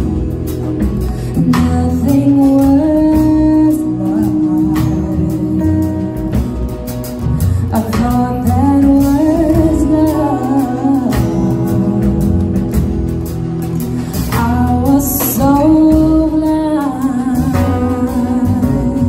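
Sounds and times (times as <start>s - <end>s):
live band playing: 0.0s - 19.0s
woman singing: 1.1s - 13.1s, 14.0s - 19.0s.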